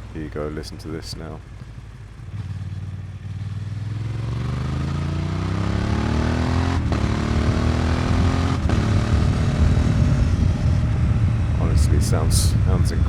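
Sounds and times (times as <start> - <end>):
motorcycle engine accelerating: 1.4 - 13.0.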